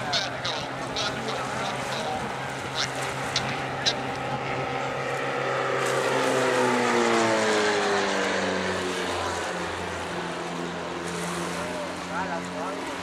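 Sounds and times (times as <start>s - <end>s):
propeller plane engines: 0.0s - 13.0s.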